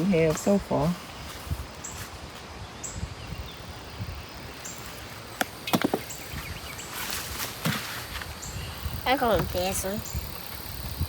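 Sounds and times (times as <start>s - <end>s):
rustle: 0.0s - 11.0s.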